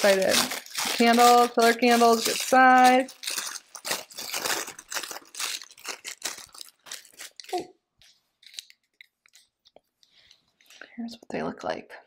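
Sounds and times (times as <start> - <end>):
packaging crinkling and tearing: 0.0 - 9.8.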